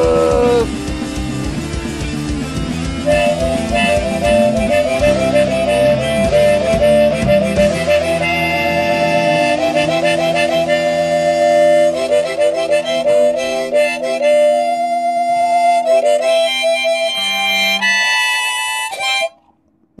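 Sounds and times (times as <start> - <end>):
ska punk instrumental: 0.0 - 19.3.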